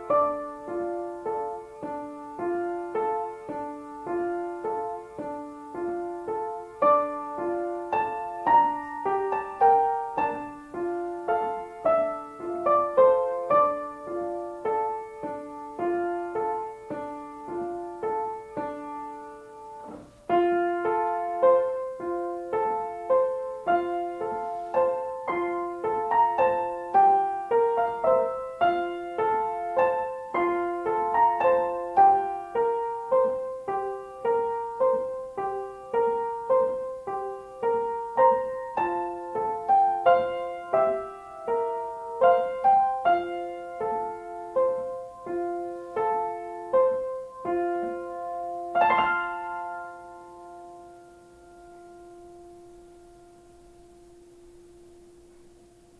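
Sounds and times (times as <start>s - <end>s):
grand piano tune: 0.0s - 55.9s.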